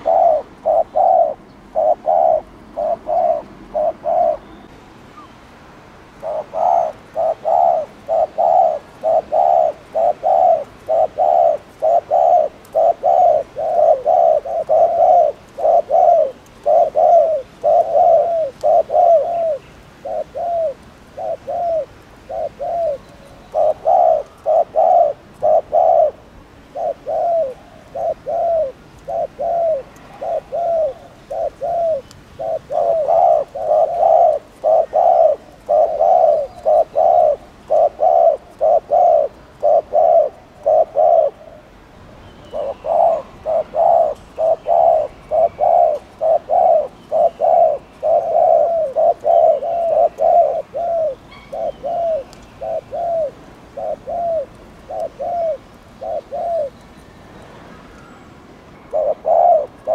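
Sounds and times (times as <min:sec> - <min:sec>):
dove cooing: 0:00.0 - 0:05.3, 0:06.1 - 0:41.8, 0:42.4 - 0:56.8, 0:58.9 - 0:59.9
small birds chirping: 0:00.0 - 0:05.5, 0:06.2 - 0:59.9.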